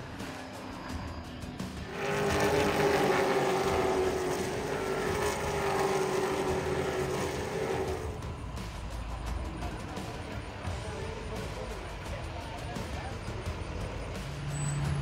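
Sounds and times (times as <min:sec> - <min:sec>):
race car engines at high revs: 0:01.6 - 0:15.0.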